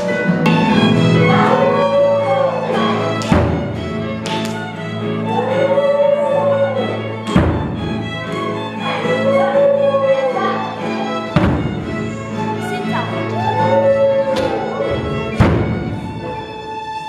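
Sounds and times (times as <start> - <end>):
violins and keyboards ensemble: 0.0 - 17.0.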